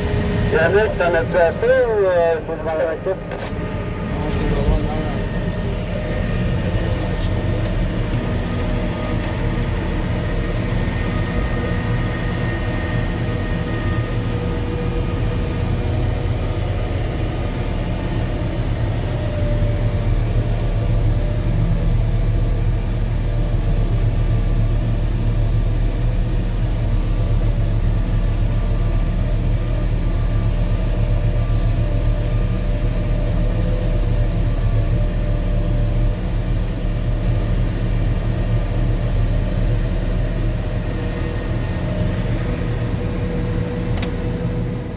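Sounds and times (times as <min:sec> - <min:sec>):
diesel engine drone: 0:00.0 - 0:44.9.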